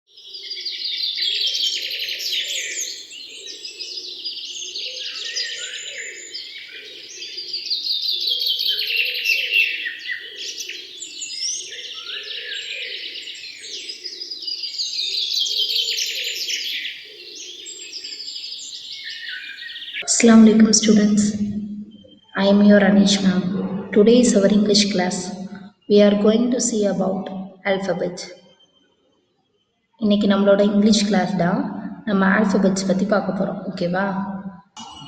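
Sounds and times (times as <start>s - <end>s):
birds chirping and trilling: 0.1s - 35.0s.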